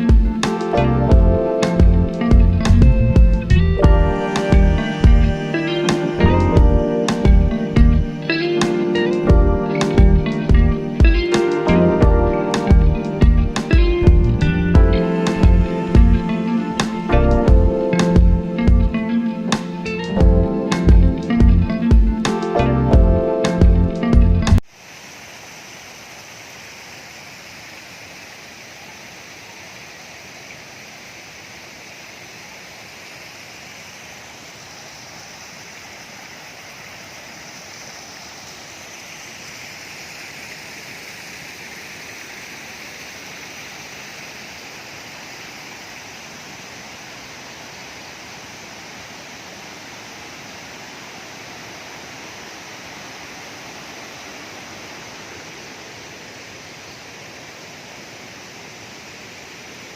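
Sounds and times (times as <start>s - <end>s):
river water rushing: 4.1s - 22.6s, 24.7s - 59.9s.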